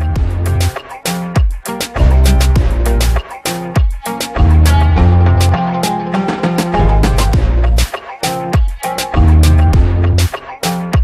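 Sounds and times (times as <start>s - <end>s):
background music with a beat: 0.0s - 11.0s.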